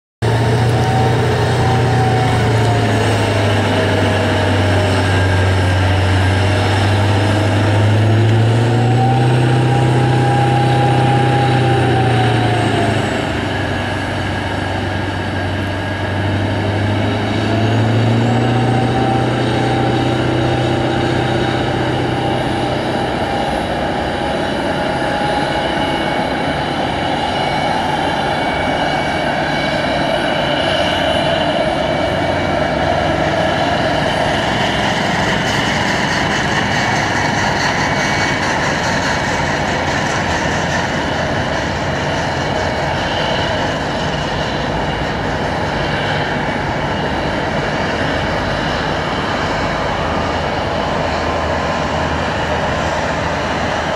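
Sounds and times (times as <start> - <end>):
aircraft engine hum: 0.2 - 53.9
steady roar: 0.2 - 53.9.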